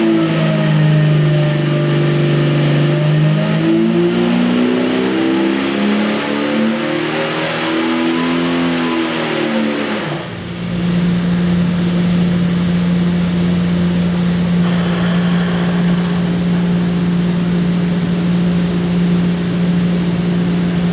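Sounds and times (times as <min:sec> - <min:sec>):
engine running on a dyno: 0:00.0 - 0:20.9.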